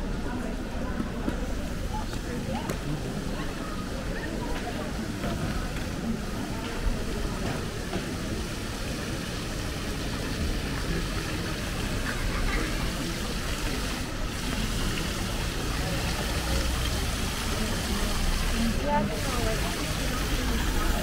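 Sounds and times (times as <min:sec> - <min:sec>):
rushing city street ambience: 0:00.0 - 0:21.0.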